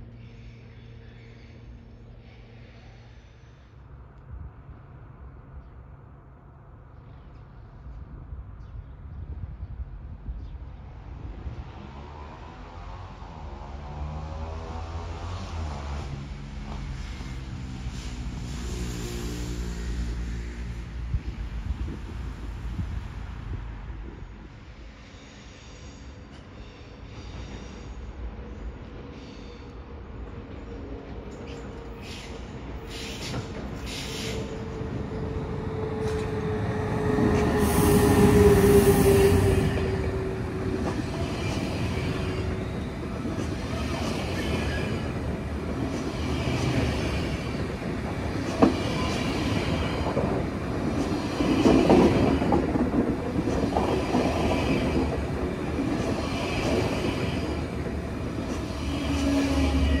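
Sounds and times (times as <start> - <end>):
train rumble: 0.0 - 60.0
train whine: 11.3 - 60.0.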